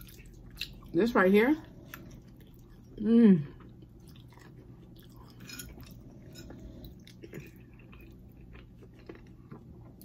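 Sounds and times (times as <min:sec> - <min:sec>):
person chewing food: 0:00.0 - 0:01.0, 0:01.6 - 0:10.0.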